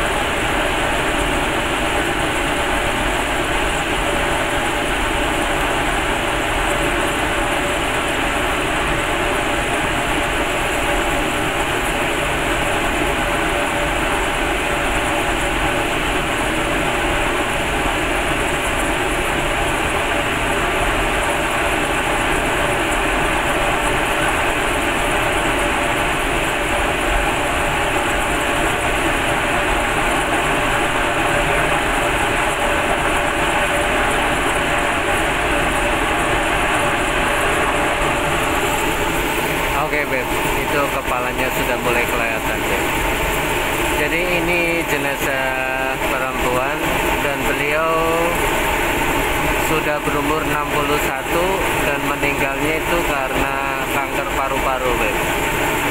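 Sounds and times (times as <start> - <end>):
furnace burner rushing: 0.0 - 55.9.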